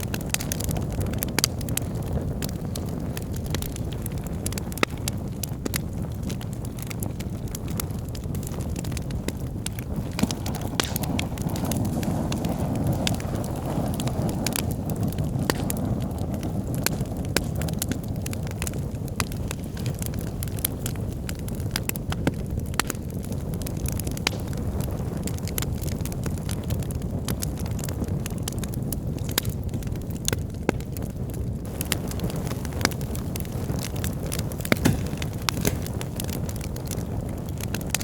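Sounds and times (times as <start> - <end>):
fire flames rumbling: 0.0 - 38.0
wood crackling and popping: 0.0 - 38.0.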